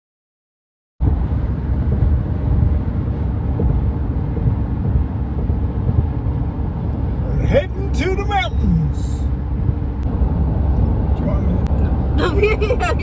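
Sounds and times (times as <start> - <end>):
vehicle road and engine rumble: 1.0 - 13.0.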